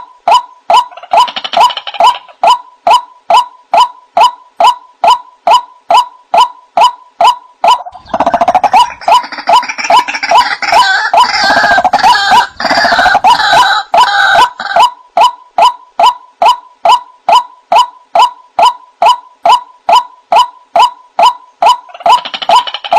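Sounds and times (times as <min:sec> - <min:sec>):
overlapping harsh bird calls: 0:00.0 - 0:22.9
waterhen calling: 0:00.0 - 0:22.9.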